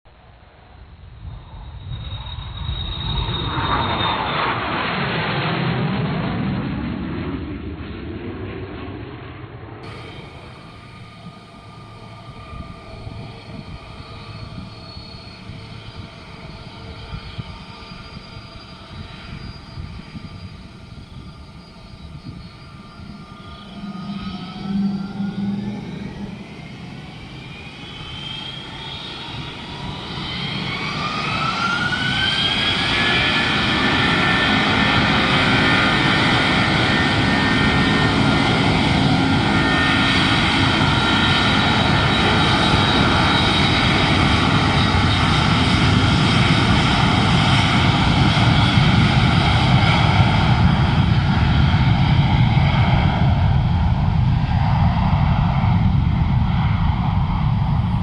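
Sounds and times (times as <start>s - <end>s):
loud jet roar with high whine: 0.3s - 58.0s
jet engines spooling up: 9.8s - 58.0s.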